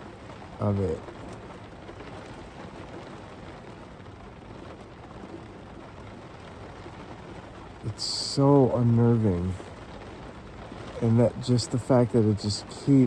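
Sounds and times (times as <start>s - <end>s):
heavy rain on a van roof: 0.0s - 13.0s.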